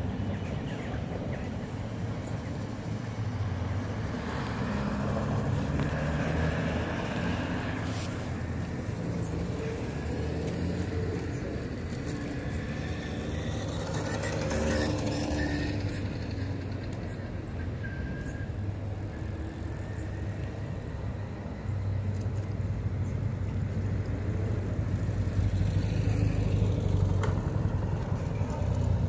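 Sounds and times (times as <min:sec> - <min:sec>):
cars and mopeds passing: 0:00.0 - 0:29.0
steady traffic hum: 0:00.0 - 0:29.0.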